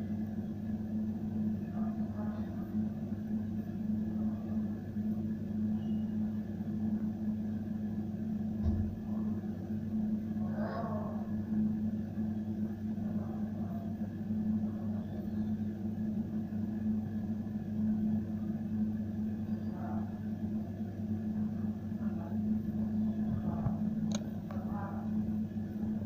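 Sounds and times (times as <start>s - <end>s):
fan motor humming: 0.0s - 26.0s.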